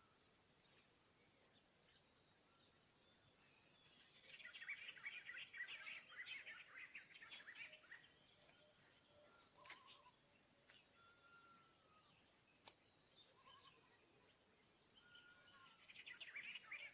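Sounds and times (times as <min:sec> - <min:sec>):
faint birds chirping: 0:00.0 - 0:16.9.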